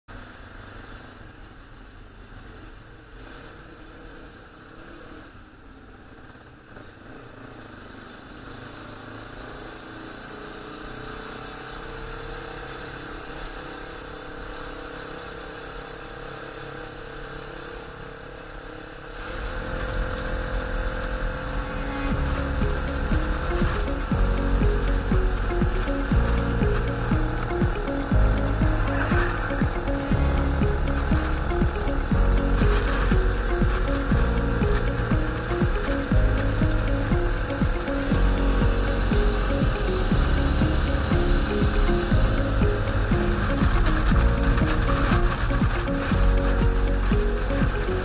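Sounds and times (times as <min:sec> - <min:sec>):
motorcycle engine running: 0:00.1 - 0:48.0.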